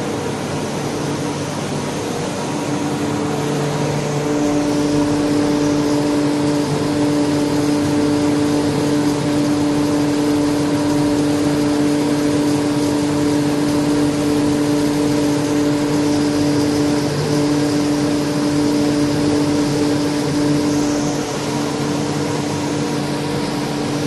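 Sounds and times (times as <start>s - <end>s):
vacuum pump humming: 0.0s - 24.0s.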